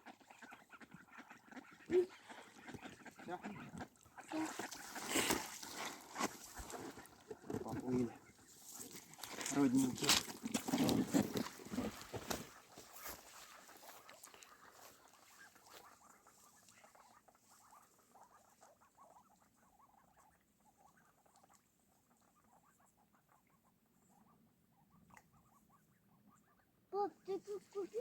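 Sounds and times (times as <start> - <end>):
ducklings peeping: 0.0 - 9.8, 11.6 - 28.0.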